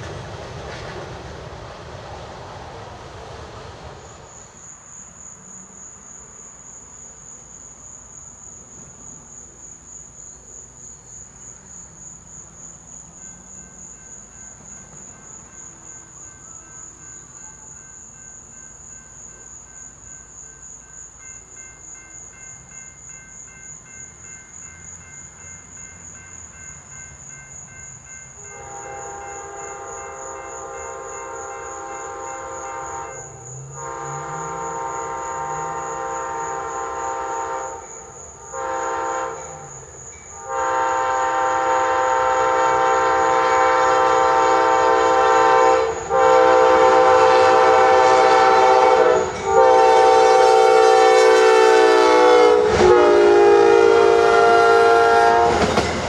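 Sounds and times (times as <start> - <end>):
crickets chirping: 0.0 - 56.0
faint train rumble: 0.0 - 56.0.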